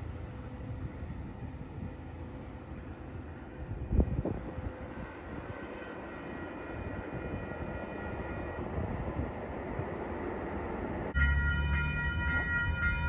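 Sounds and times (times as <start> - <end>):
distant train rumble: 0.0 - 13.0.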